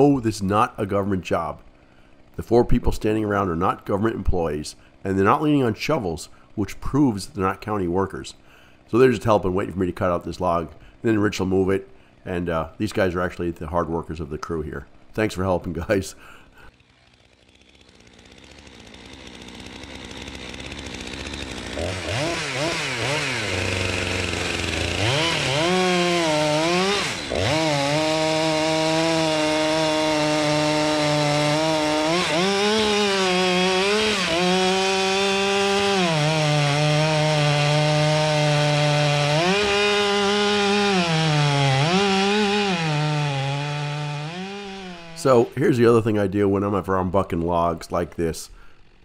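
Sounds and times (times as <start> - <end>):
chainsaw cutting log: 0.0 - 49.0.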